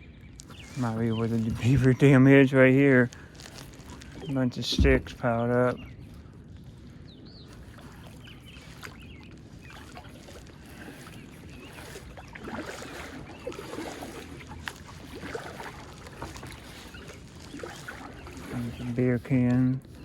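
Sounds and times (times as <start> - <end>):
water dripping and lapping: 0.2 - 20.0
paddle splashing in water: 0.4 - 20.0.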